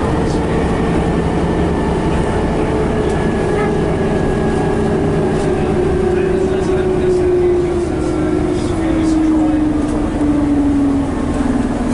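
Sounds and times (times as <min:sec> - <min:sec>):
bus engine rumble with whine: 0:00.0 - 0:11.9.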